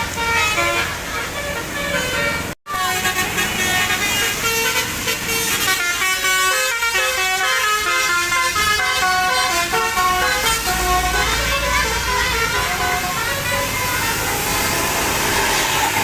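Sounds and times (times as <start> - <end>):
bus horn playing melody: 0.0 - 16.0.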